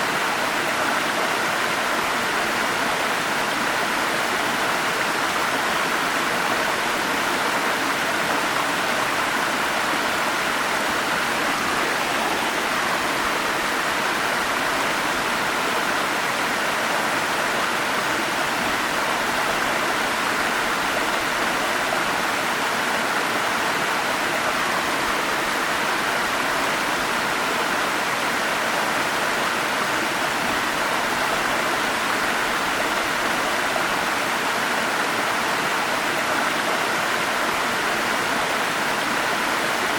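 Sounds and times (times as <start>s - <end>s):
stream and small waterfalls: 0.0s - 39.9s.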